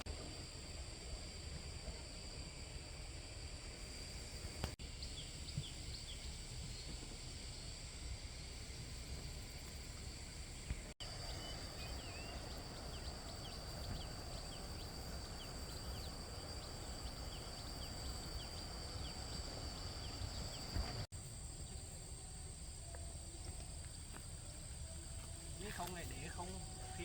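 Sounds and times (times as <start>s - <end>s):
high insect whine: 0.1s - 27.0s.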